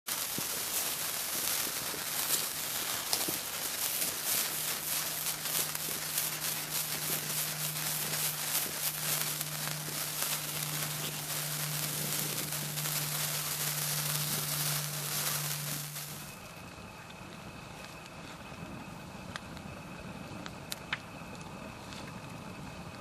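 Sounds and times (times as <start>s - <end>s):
sparkler fizzing and crackling: 0.0s - 23.0s
steady low hum: 0.1s - 23.0s.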